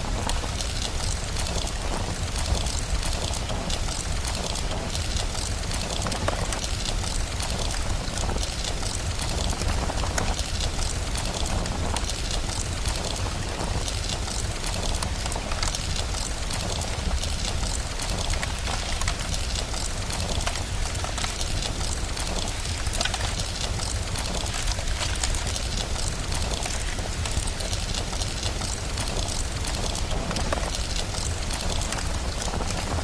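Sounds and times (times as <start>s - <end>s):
rain hiss: 0.0s - 33.0s
wood fire crackling: 0.0s - 33.0s.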